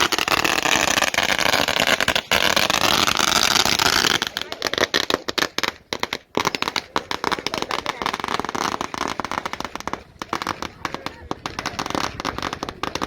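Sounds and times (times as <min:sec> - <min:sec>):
firecrackers popping: 0:00.0 - 0:13.0.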